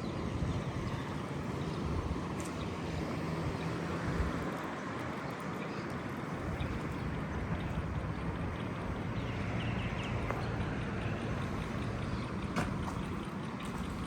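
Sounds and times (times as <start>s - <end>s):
traffic hum: 0.0s - 14.0s.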